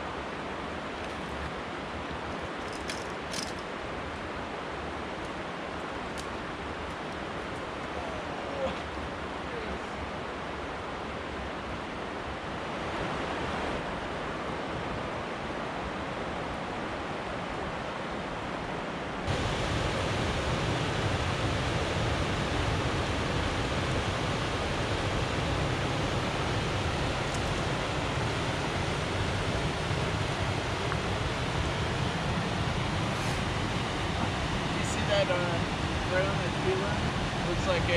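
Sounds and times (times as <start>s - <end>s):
river rushing over rocks: 0.0s - 37.9s.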